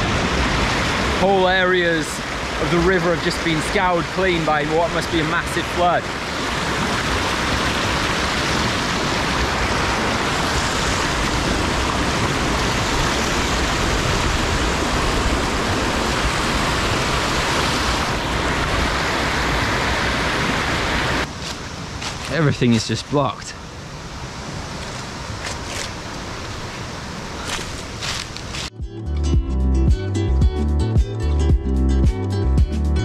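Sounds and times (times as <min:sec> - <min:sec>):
river rushing over boulders: 0:00.0 - 0:28.8.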